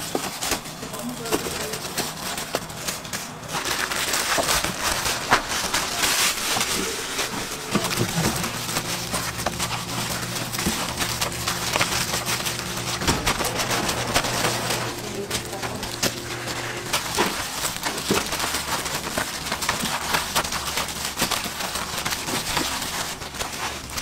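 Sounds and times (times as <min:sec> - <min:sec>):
plastic crinkling and rustling: 0:00.0 - 0:24.0.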